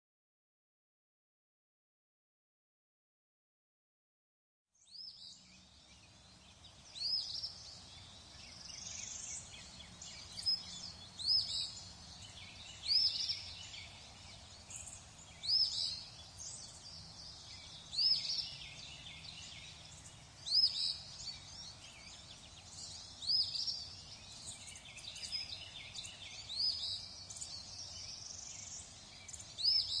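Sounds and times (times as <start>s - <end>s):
outdoor background hiss: 4.8s - 30.0s.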